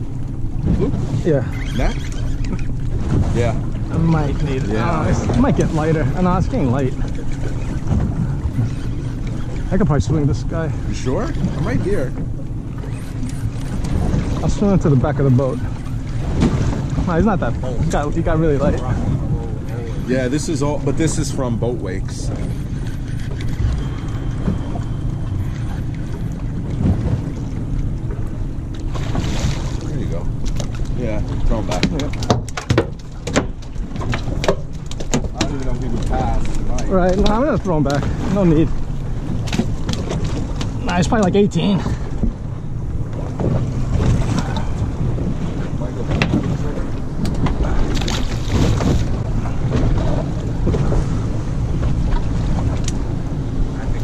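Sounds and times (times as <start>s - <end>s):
boat engine rumble: 0.0s - 54.0s
water lapping at hull: 0.0s - 54.0s
wind buffeting microphone: 0.0s - 54.0s.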